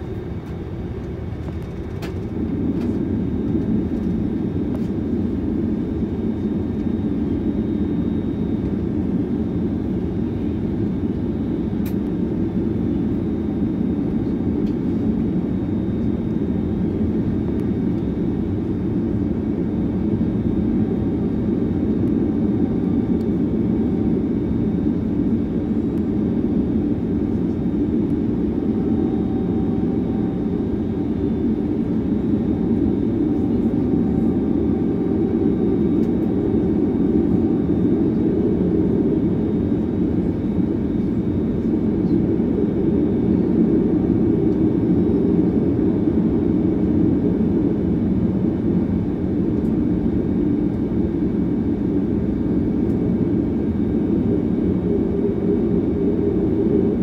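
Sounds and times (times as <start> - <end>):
jet engines droning: 0.0 - 57.0.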